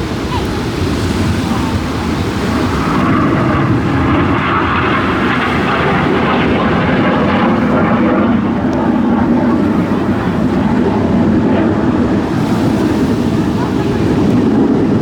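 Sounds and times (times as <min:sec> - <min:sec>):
aircraft flying past overhead: 0:00.0 - 0:15.0.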